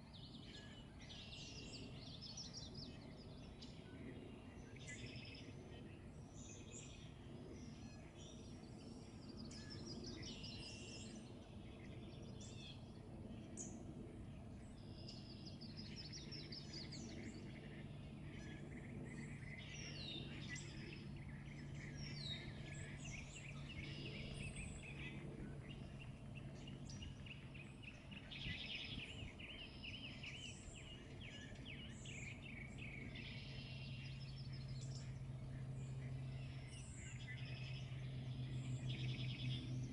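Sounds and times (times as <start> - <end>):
low rumbling background noise: 0.0 - 39.9
songbirds singing and chirping: 0.0 - 39.9
steady low hum: 0.0 - 39.9.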